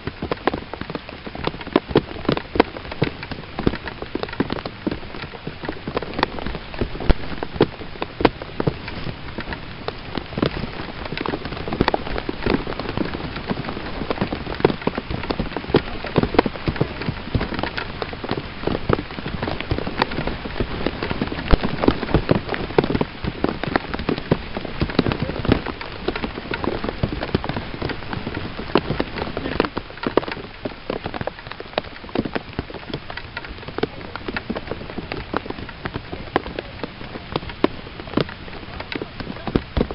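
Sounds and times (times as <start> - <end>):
raindrops ticking near microphone: 0.0 - 39.9
steady rain falling: 0.0 - 39.9.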